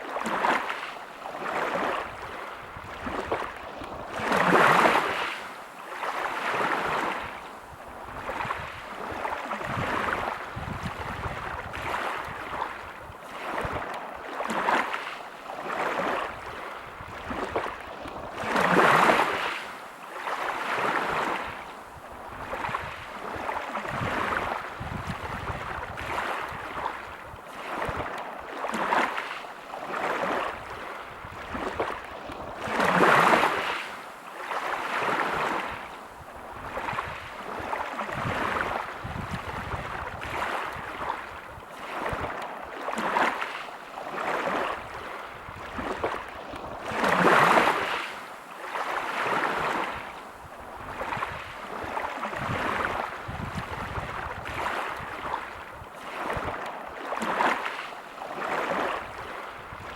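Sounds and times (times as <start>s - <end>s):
waves breaking on pebble beach: 0.0s - 7.4s, 8.2s - 21.6s, 22.4s - 59.9s.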